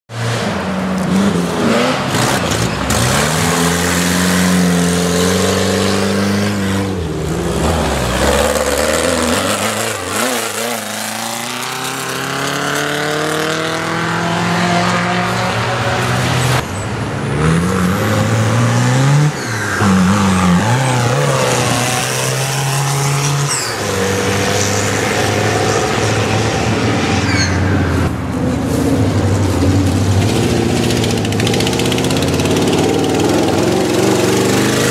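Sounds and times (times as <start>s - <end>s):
engines revving and passing by: 0.1s - 34.9s.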